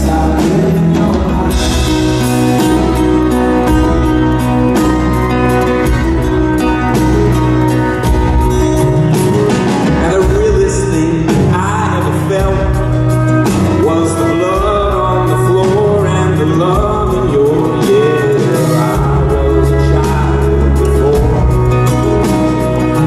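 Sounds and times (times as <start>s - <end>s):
acoustic guitars: 0.0s - 23.0s
drums: 0.0s - 23.0s
man singing: 0.0s - 23.0s.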